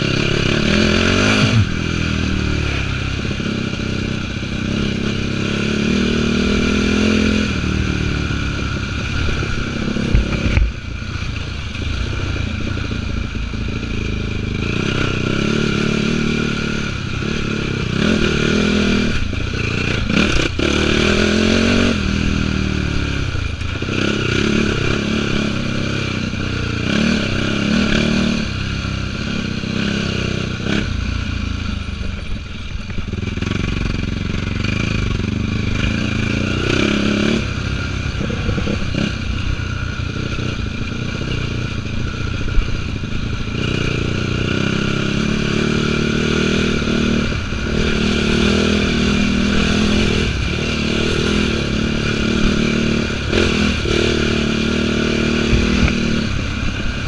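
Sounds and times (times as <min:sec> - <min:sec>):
quad engine revving: 0:00.0 - 0:31.6, 0:33.1 - 0:57.0.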